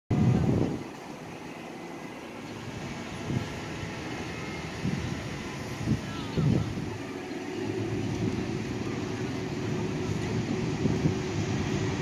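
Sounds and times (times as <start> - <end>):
city background noise: 0.1 - 12.0
distant diesel train rumble: 0.1 - 12.0.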